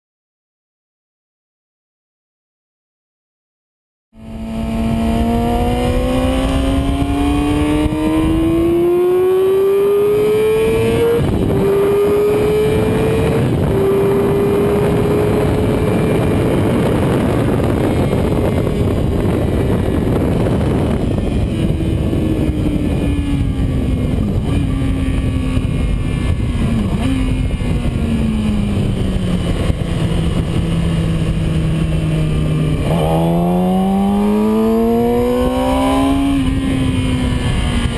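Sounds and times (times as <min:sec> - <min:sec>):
motorcycle engine revving: 0:04.2 - 0:37.9
wind noise: 0:04.2 - 0:37.9.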